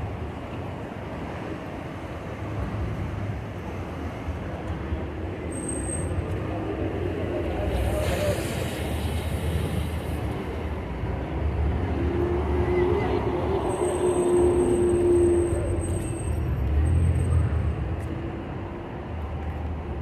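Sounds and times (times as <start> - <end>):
elevated train rumbling and clattering: 0.0 - 19.4.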